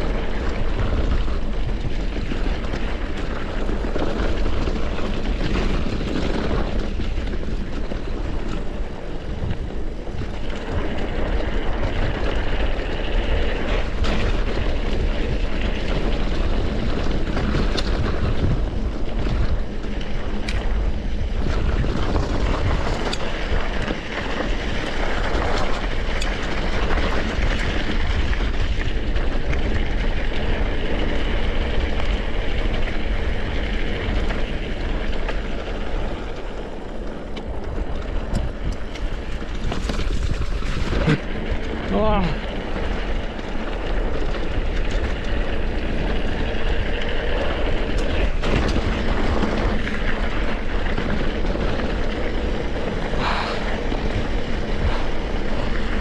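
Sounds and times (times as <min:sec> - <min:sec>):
bike rattling: 0:00.0 - 0:56.0
bike tyre and frame noise: 0:00.0 - 0:56.0
wind rush on microphone: 0:00.0 - 0:56.0.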